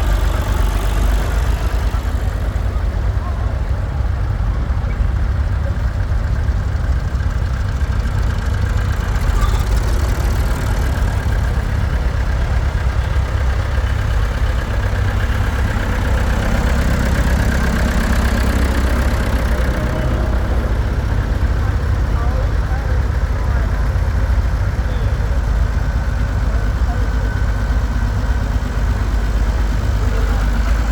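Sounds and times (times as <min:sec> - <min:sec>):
tractor engines running: 0:00.0 - 0:30.9.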